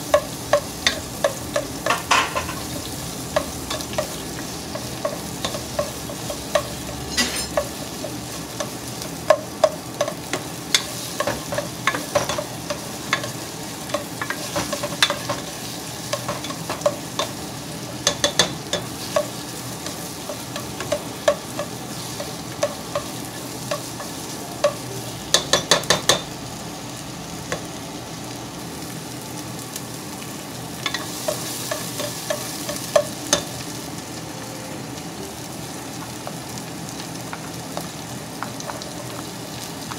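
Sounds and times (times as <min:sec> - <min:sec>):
onions sizzling in oil: 0:00.0 - 0:39.9.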